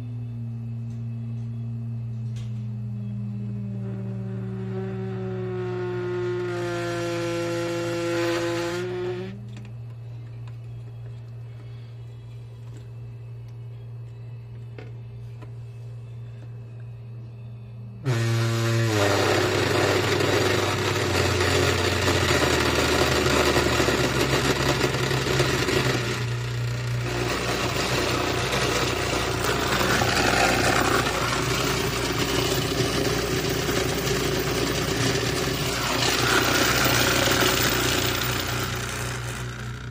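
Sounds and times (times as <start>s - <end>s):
speaker buzzing rattle: 0.0s - 10.0s, 18.0s - 39.9s
low sine-wave test tones: 0.0s - 39.9s.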